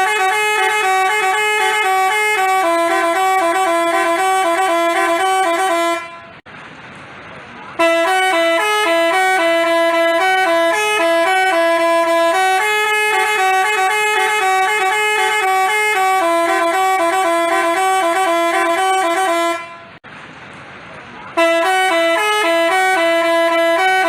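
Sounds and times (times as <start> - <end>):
bus horn playing a melody: 0.0 - 6.4, 7.8 - 20.0, 21.3 - 24.0.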